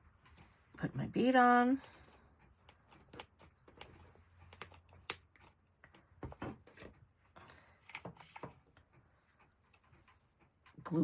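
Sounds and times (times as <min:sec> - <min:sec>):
small clicks and taps: 0:01.8 - 0:11.0.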